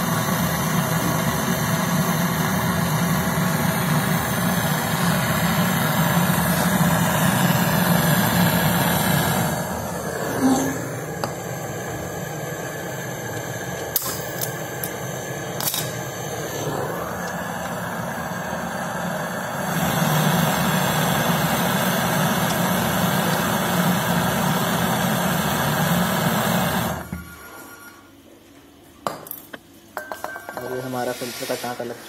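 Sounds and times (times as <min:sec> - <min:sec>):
brazing torch hissing: 0:00.0 - 0:27.3, 0:30.7 - 0:32.0.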